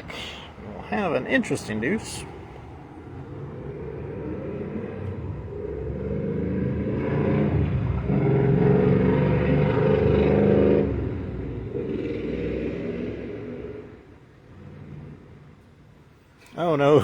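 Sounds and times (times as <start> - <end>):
vehicle engine passing by: 0.0 - 15.5.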